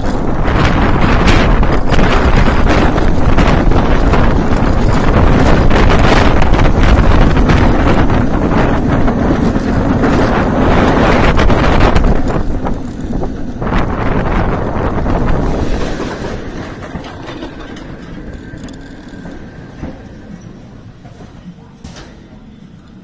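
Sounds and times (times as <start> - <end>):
wind rushing on microphone: 0.0 - 20.3
roller coaster train rumbling on track: 0.0 - 23.0.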